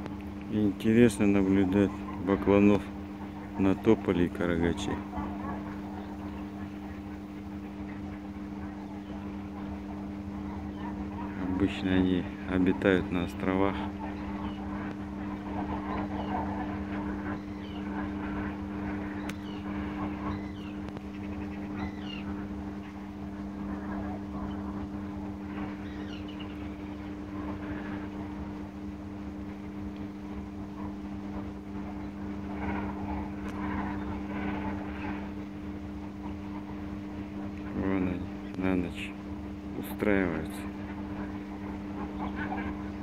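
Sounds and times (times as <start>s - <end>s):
steady motor hum: 0.0s - 43.0s.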